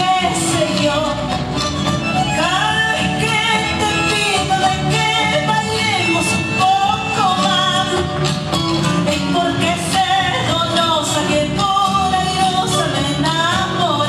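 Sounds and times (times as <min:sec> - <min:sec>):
person singing: 0:00.0 - 0:01.6, 0:02.3 - 0:08.3, 0:08.9 - 0:14.0
guitar: 0:00.0 - 0:14.0.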